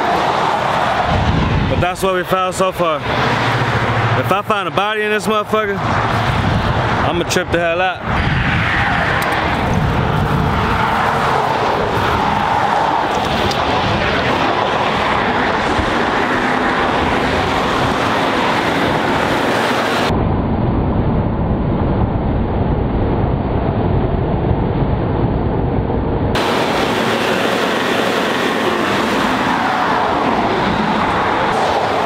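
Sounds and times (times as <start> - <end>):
moving vehicle rushing noise: 0.0 - 32.0.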